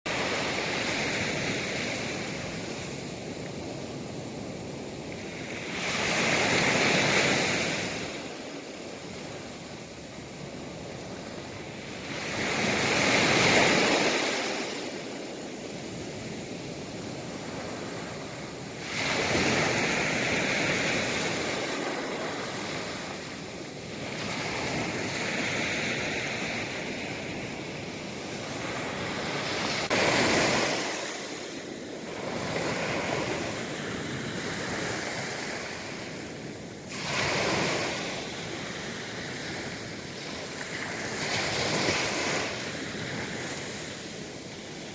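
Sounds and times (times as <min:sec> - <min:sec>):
sea waves breaking on shore: 0:00.1 - 0:44.9.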